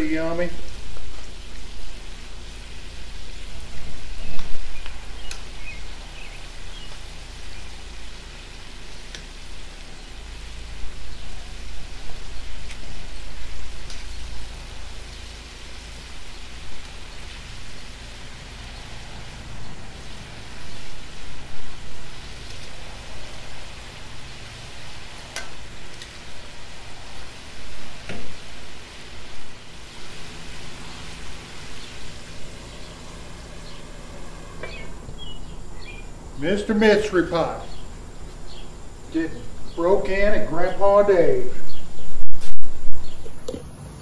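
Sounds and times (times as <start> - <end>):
chicken sizzling in hot oil: 0.0 - 37.4.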